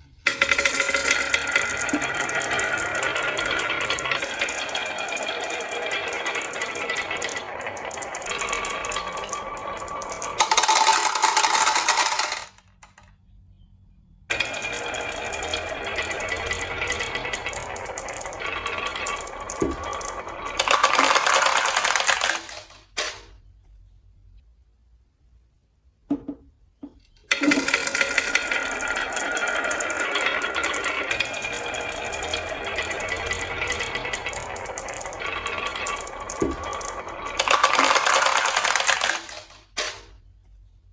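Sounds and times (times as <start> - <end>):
marbles clattering down wooden track: 0.2 - 13.0, 14.3 - 23.2, 27.3 - 40.0.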